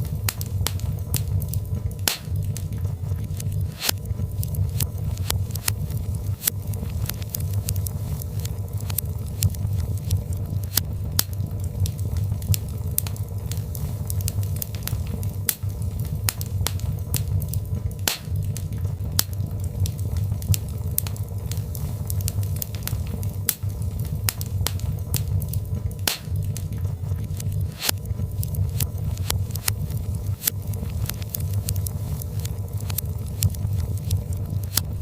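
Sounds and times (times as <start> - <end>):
flames rumbling: 0.0 - 35.0
logs crackling and popping: 0.0 - 35.0.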